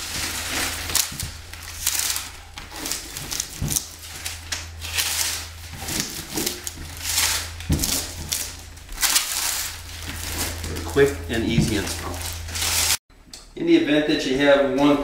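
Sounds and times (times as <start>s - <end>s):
hands rustling and crinkling mesh mat: 0.0s - 13.0s.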